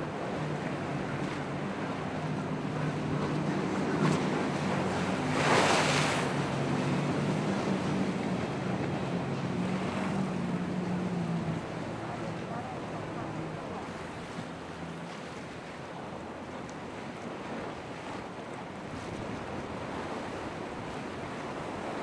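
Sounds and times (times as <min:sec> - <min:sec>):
motorboat engine running: 0:00.0 - 0:22.0
waves: 0:00.0 - 0:22.0.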